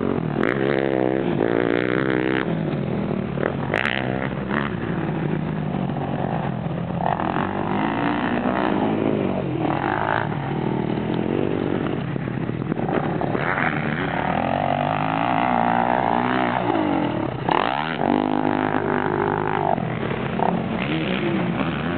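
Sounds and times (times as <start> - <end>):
dirt bike engine revving: 0.0 - 21.9.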